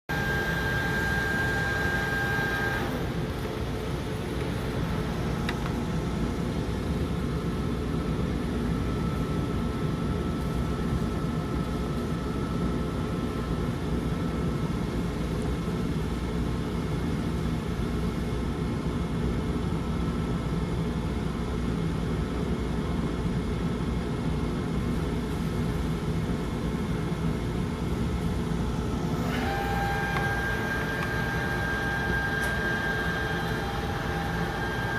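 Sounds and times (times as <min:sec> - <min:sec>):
lathe machine hum: 0:00.0 - 0:19.1, 0:24.8 - 0:34.9
high machine whine: 0:00.0 - 0:34.9.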